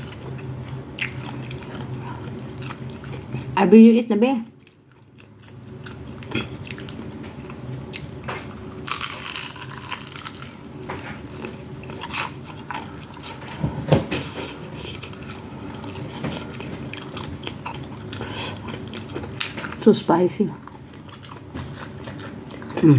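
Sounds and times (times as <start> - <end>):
person chewing food: 0.0 - 3.6, 4.5 - 19.9, 20.6 - 22.9.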